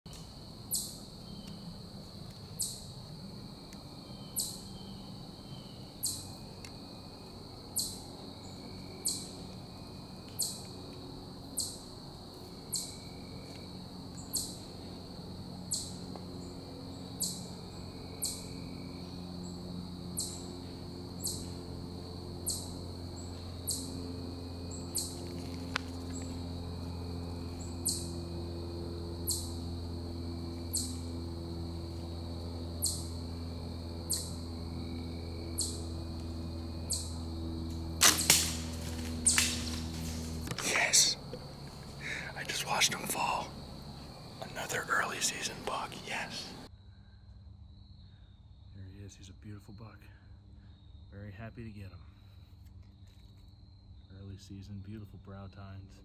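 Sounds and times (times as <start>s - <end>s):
insects trilling: 0.1s - 56.0s
faint low hum: 0.2s - 46.7s.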